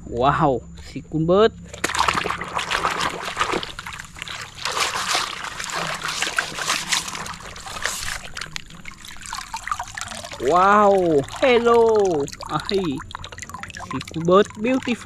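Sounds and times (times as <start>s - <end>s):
water sloshing and splashing: 1.6s - 15.0s.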